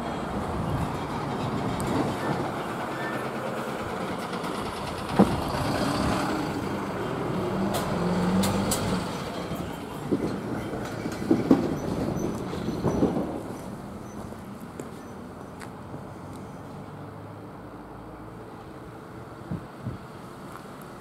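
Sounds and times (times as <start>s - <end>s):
motor vehicle running: 0.0s - 17.6s
low engine tone: 0.0s - 21.0s.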